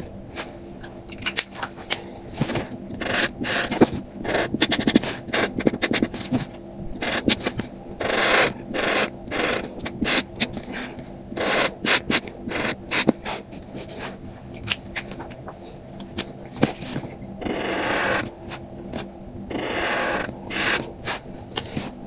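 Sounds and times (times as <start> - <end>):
rubbing and scraping on paper card: 2.4 - 22.0.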